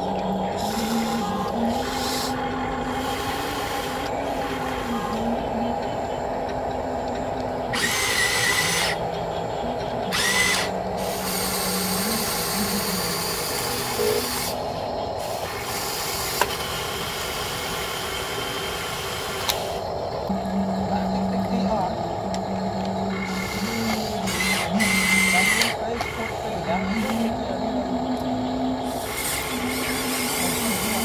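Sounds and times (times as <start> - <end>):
electric motors whirring: 0.0 - 31.0.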